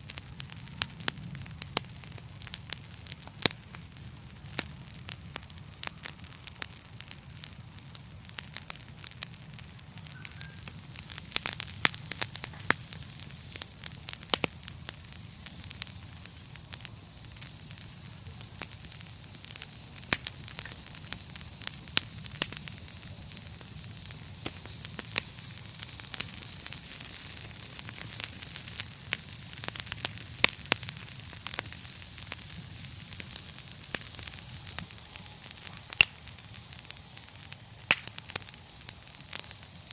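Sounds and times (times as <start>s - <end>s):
fire crackling and popping: 0.0s - 39.9s
steady hiss: 0.0s - 39.9s.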